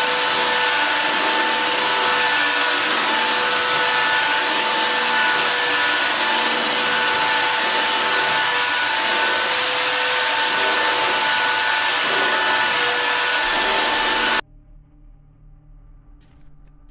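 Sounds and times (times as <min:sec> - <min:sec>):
electric sander on wood: 0:00.0 - 0:14.4.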